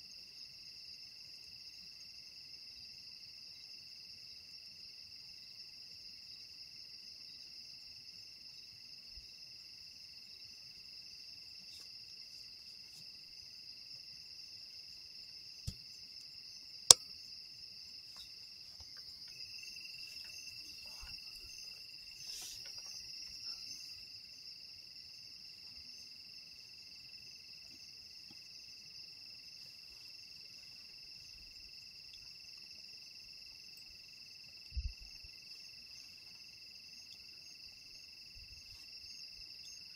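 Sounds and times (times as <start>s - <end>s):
night insects chirring: 0.0s - 39.9s.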